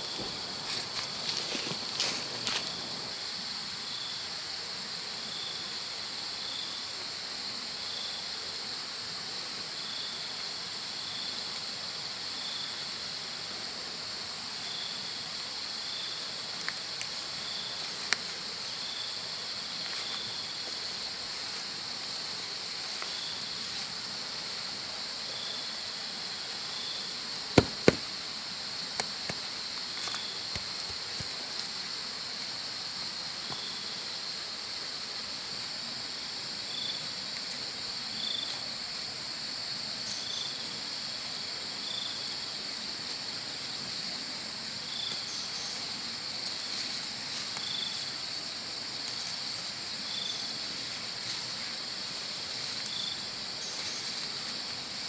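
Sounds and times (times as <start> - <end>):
high insect buzz: 0.0 - 55.0
pulsing insect trill: 0.0 - 55.0
soft insect chirp: 0.0 - 55.0.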